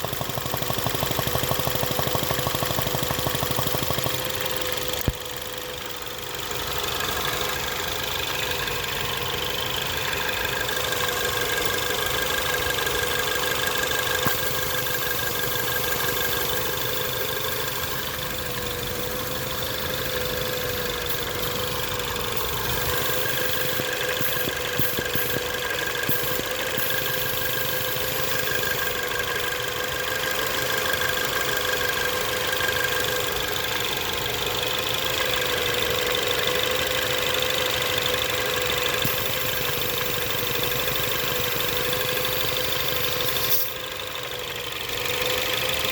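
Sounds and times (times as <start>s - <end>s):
car engine idling: 0.0s - 45.9s
constant whine: 0.0s - 45.9s.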